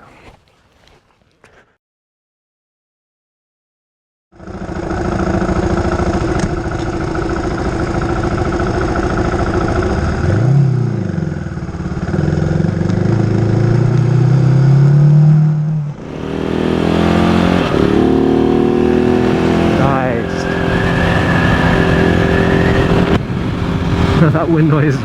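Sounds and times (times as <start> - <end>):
motorcycle engine: 4.4 - 25.0.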